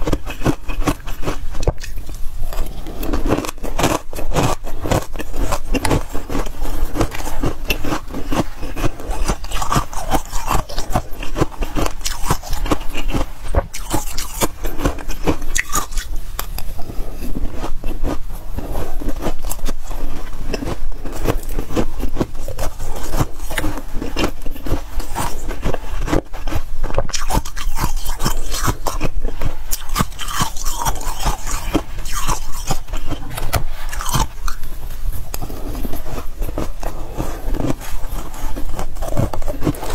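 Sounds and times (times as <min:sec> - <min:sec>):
frost being chewed: 0:00.0 - 0:39.9.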